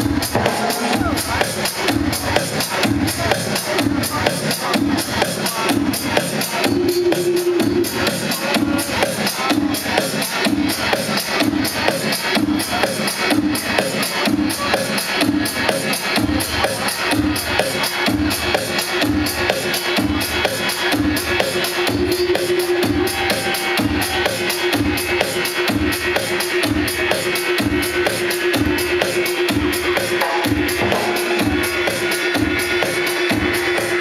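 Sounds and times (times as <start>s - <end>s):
deep bass: 0.0s - 34.0s
electronic dance music: 0.0s - 34.0s.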